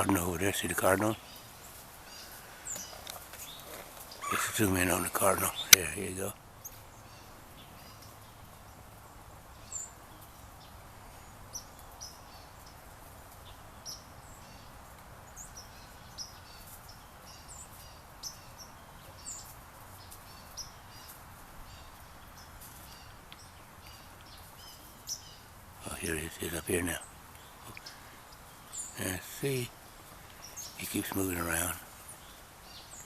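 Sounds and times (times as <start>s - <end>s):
songbirds chirping: 0.0s - 33.0s
steady background hiss: 0.0s - 33.0s.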